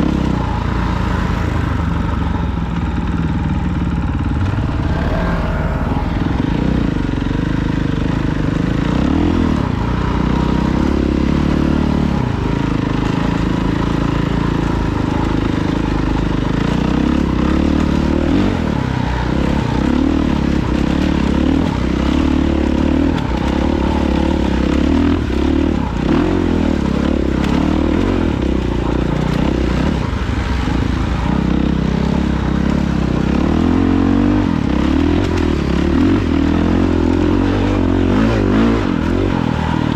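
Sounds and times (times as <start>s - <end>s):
off-road vehicle engine: 0.0s - 39.9s.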